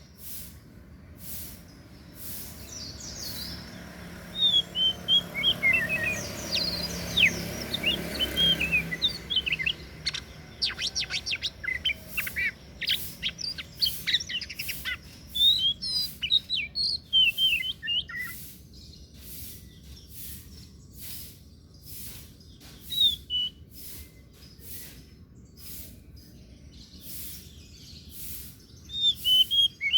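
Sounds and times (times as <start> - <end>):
bird singing whistles and chirps: 2.5 - 20.9, 21.8 - 29.9.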